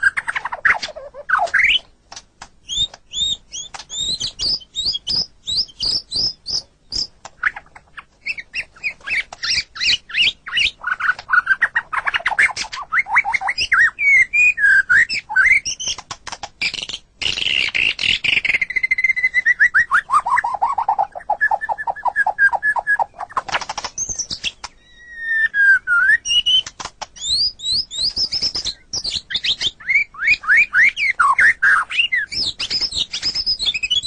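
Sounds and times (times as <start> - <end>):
songbird singing varied song: 2.6 - 16.0, 16.6 - 34.0.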